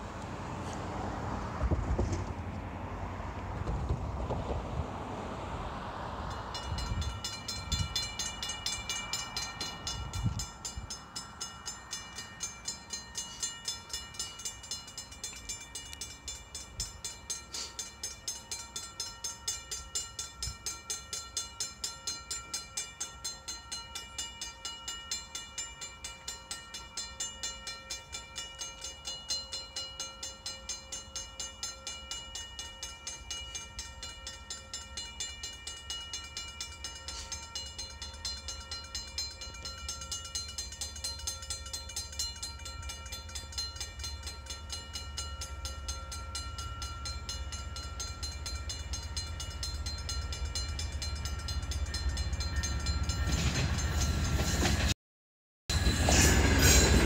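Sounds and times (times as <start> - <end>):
railroad crossing bell ringing: 5.4 - 55.0, 55.7 - 57.0.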